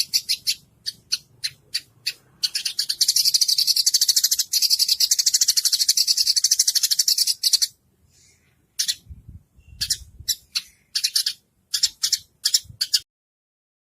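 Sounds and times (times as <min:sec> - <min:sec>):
high-pitched rattling bird trill: 0:00.0 - 0:07.8, 0:08.8 - 0:09.0, 0:09.6 - 0:13.0
short high rattling bird chirps: 0:00.0 - 0:07.8, 0:08.8 - 0:13.1.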